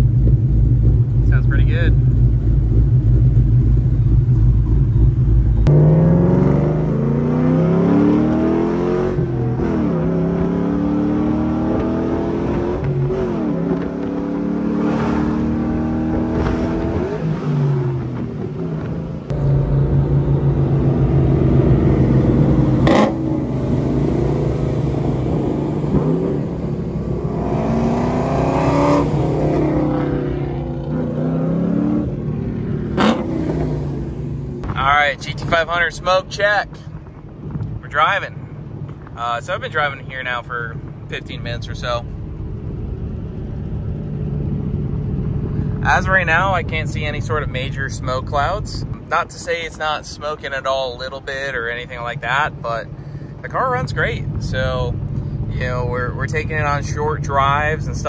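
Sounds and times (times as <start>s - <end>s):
car engine revving: 0.0s - 38.0s, 38.7s - 58.0s.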